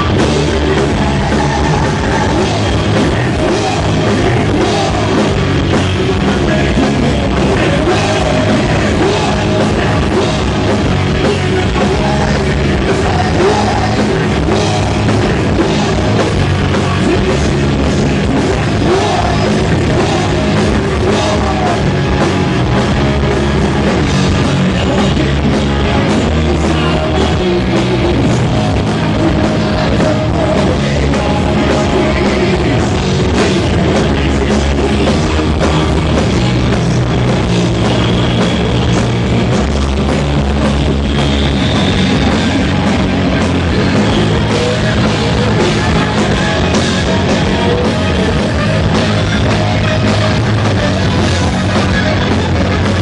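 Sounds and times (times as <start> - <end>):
heavy metal band playing: 0.0 - 53.0.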